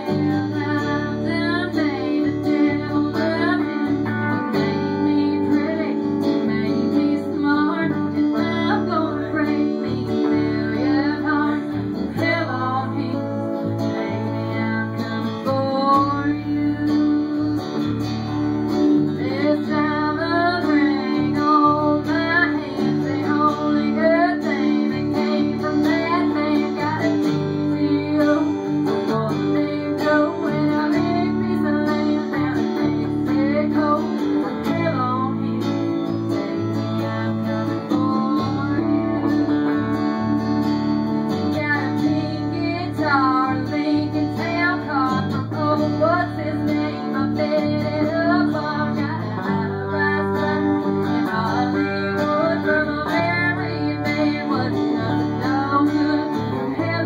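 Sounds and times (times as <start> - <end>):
live country band playing: 0.0 - 57.0
woman singing: 0.0 - 57.0.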